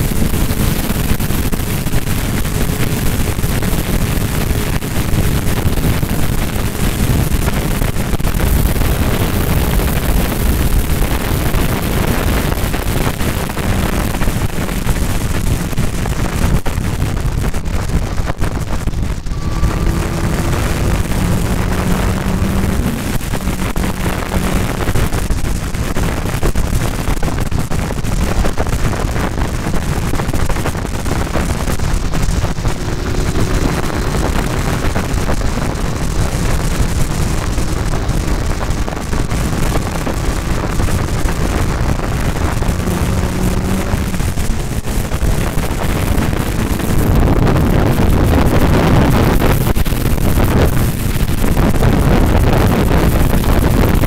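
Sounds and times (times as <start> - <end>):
motorcycle engine pulling: 0.0 - 54.0
wind buffeting microphone: 0.0 - 54.0.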